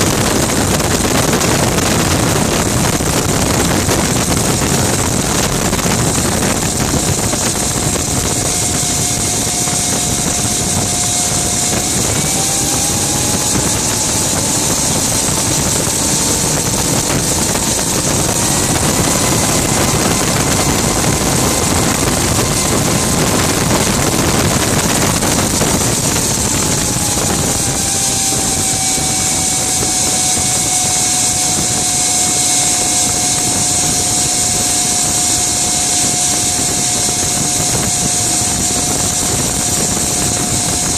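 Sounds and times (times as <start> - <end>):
gas turbine engine whine: 0.0 - 40.9.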